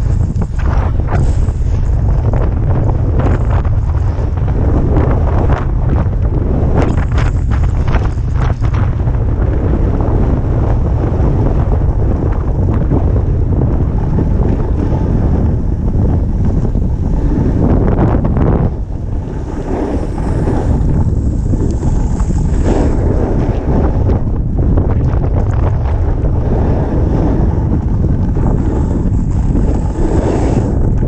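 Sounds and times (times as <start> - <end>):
snowboard sliding over snow: 0.0 - 31.0
wind buffeting microphone: 0.0 - 31.0.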